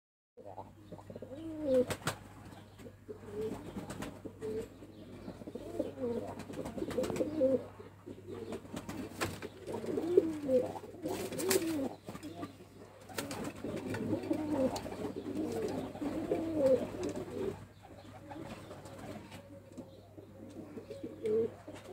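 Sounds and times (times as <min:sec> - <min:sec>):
pigeons cooing: 0:00.4 - 0:21.9.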